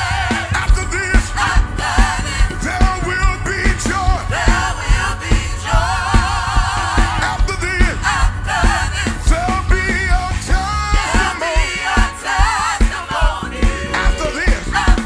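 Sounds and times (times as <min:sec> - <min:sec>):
band playing: 0:00.0 - 0:15.0
choir singing gospel: 0:00.0 - 0:15.0
steady drum beat: 0:00.0 - 0:15.0.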